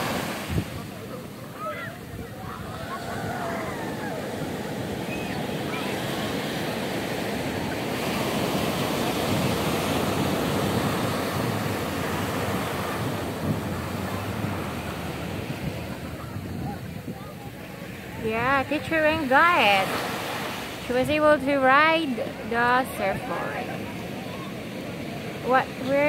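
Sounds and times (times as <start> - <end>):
ocean surf on beach: 0.0 - 26.0.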